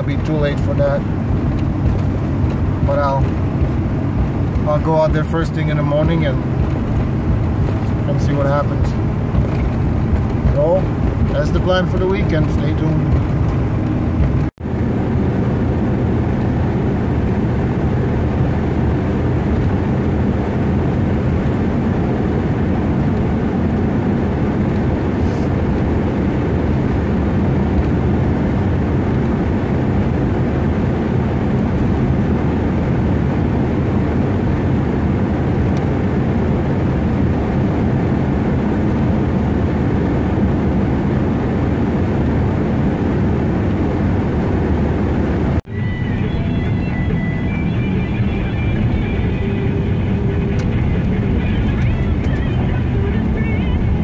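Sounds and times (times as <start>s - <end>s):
vehicle engine and tyre drone: 0.0s - 54.0s.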